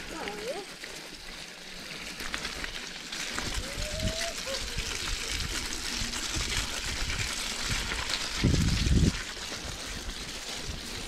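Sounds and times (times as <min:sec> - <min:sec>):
bicycle tyre and wind noise: 0:00.0 - 0:11.0
bike rattling and knocking: 0:00.0 - 0:11.0.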